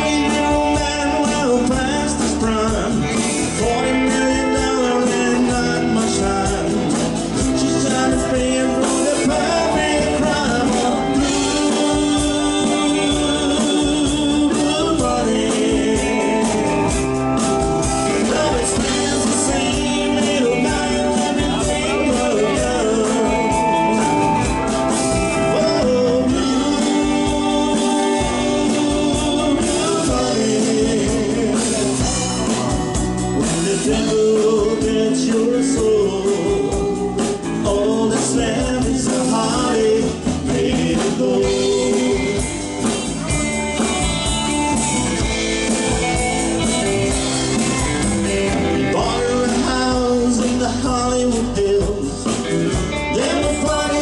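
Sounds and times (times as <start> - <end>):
live country band playing: 0.0 - 54.0.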